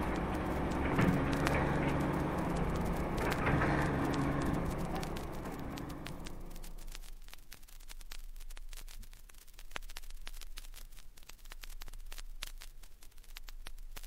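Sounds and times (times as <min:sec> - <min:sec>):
low hum: 0:00.0 - 0:14.0
vinyl crackles and pops: 0:00.0 - 0:14.0
vinyl surface hiss: 0:00.0 - 0:14.0.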